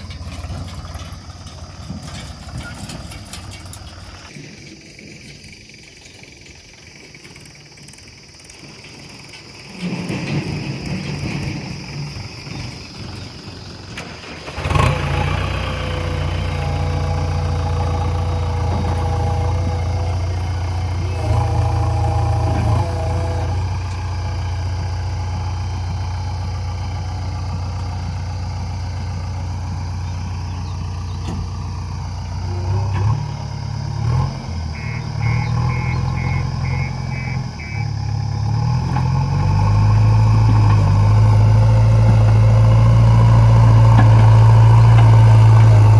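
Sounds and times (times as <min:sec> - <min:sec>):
heavy diesel engine: 0:00.0 - 0:45.9.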